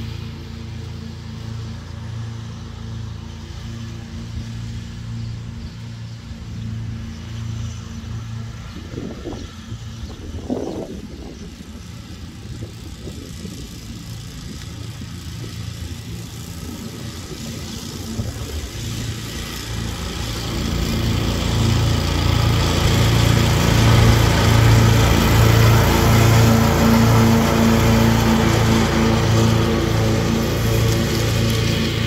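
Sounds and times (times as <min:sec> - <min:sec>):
ride-on mower engine: 0:00.0 - 0:32.0.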